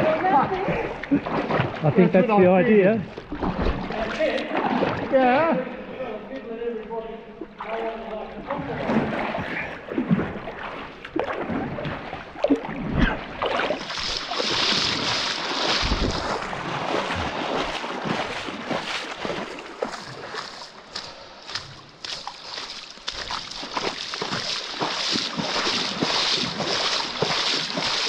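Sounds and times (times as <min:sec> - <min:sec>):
rushing water: 0:00.0 - 0:05.9, 0:07.2 - 0:28.0
water sloshing and splashing: 0:00.0 - 0:28.0.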